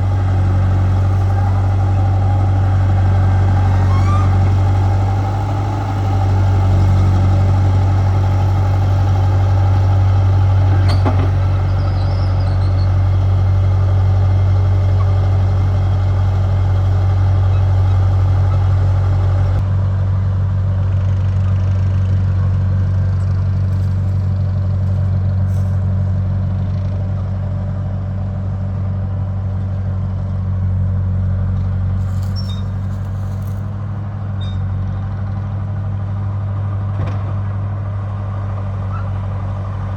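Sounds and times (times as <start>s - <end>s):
bulldozer diesel engine humming: 0.0s - 39.9s.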